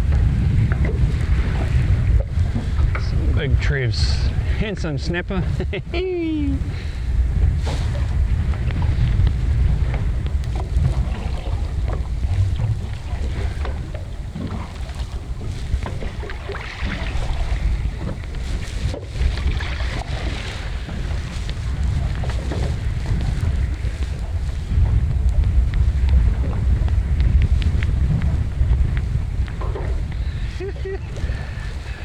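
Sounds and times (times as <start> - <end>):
water lapping against boat hull: 0.0 - 32.0
wind buffeting microphone: 0.0 - 32.0.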